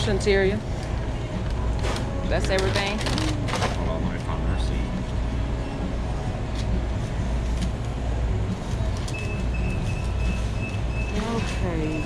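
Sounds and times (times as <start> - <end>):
indoor machinery rumble: 0.0 - 12.0.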